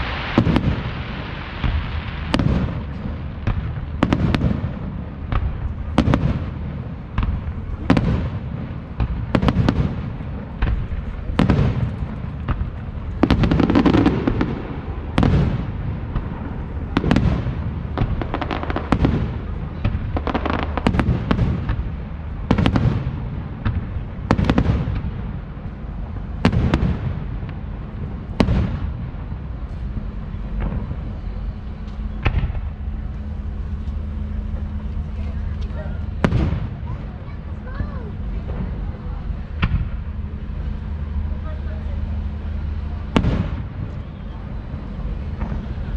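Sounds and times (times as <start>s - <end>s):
fireworks bursting with echo: 0.0s - 45.9s.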